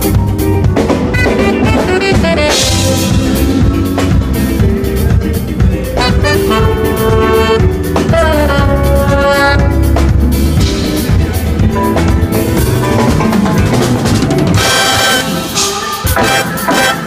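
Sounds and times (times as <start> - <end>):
drum kit beat: 0.0 - 17.0
live band playing: 0.0 - 17.0
melody sliding into held notes: 0.0 - 17.0.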